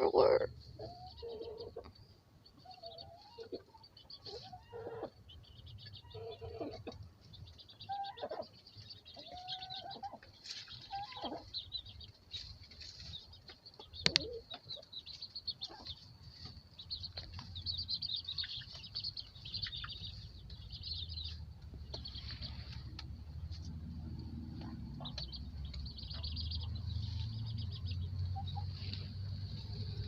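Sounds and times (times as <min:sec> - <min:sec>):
baby chicks peeping: 0:00.0 - 0:30.0
chicken calls: 0:00.0 - 0:30.0.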